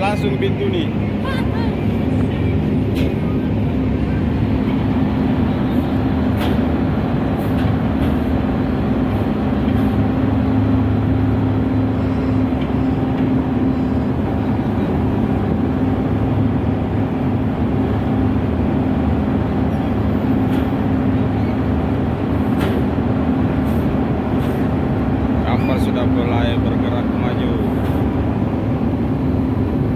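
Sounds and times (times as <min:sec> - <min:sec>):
ship diesel engine drone: 0:00.0 - 0:29.9.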